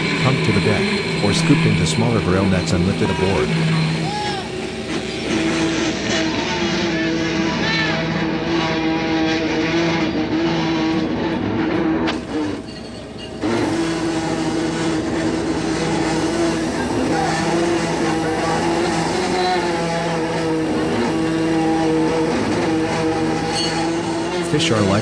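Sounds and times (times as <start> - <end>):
boat engine and deck machinery: 0.0 - 25.0.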